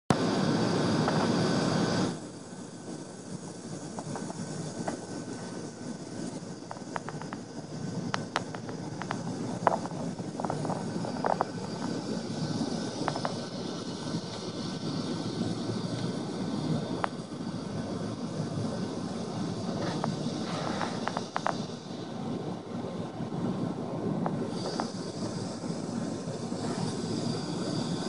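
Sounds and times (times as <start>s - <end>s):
distant engine rumble: 2.9s - 28.0s.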